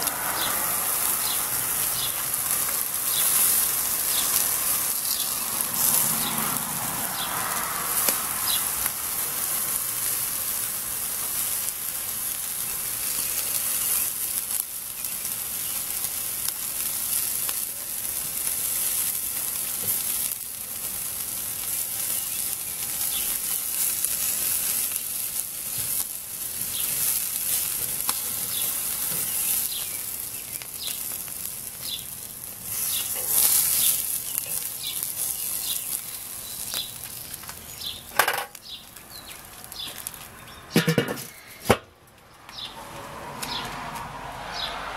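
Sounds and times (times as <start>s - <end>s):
chicken sizzling on a grill: 0.0s - 41.7s.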